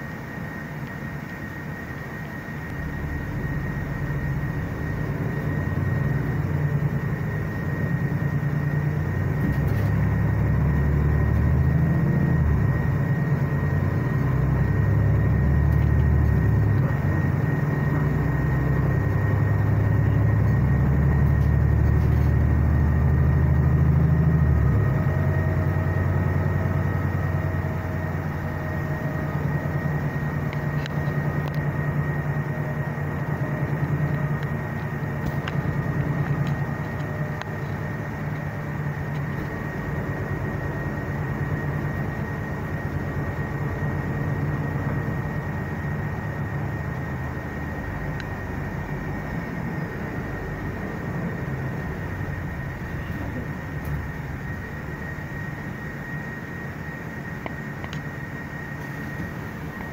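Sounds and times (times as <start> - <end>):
bus engine: 0.0 - 59.9
steady high-pitched tone: 0.0 - 59.9.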